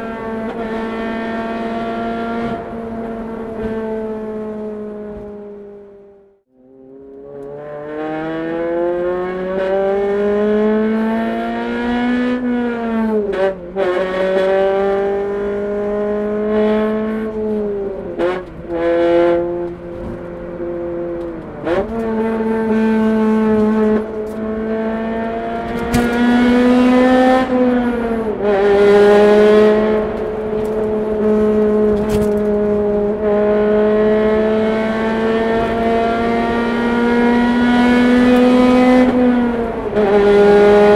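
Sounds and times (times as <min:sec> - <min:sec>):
car engine and exhaust revving: 0:00.0 - 0:40.9.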